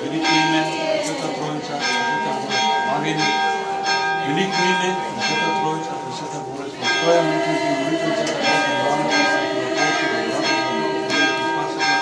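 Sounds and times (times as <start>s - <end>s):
church bells ringing: 0.0s - 12.0s
voices singing a chant: 0.0s - 12.0s.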